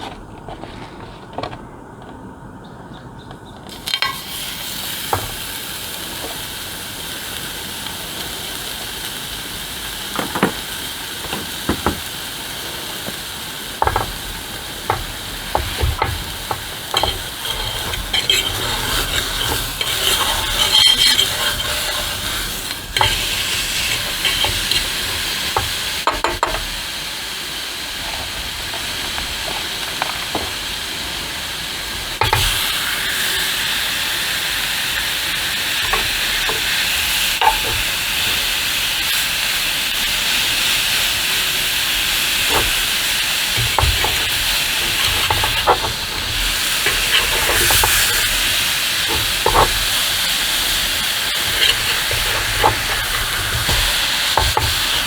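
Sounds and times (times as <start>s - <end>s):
rain hissing on a tent: 3.7s - 55.0s.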